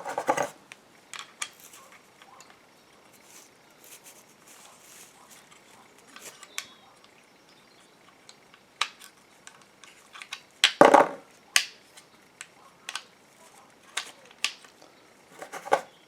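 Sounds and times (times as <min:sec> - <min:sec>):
clicks and knocks of handled parts: 0:00.0 - 0:07.2, 0:08.0 - 0:15.9.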